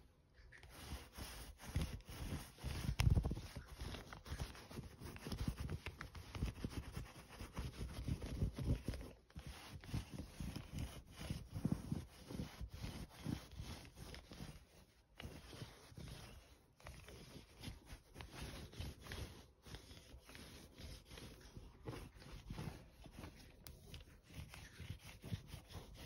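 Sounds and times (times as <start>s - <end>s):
lint roller rubbing on fleece: 0.4s - 26.0s.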